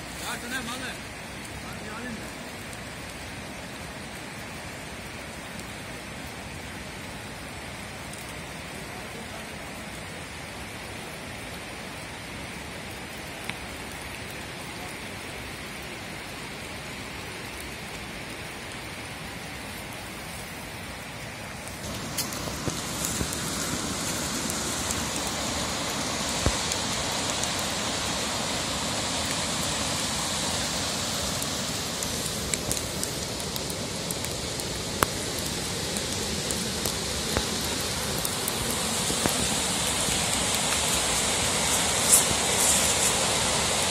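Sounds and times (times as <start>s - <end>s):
river rushing over rocks: 0.0s - 13.0s, 15.9s - 43.9s.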